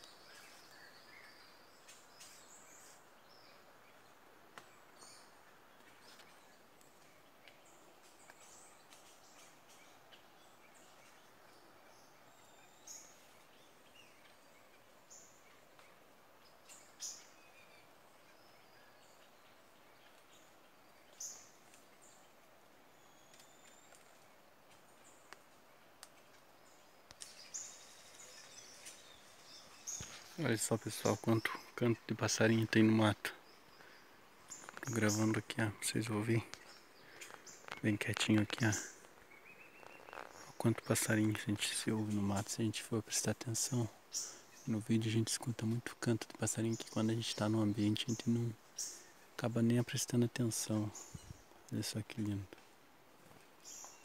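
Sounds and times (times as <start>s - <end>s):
forest birds chirping: 0.0s - 54.0s.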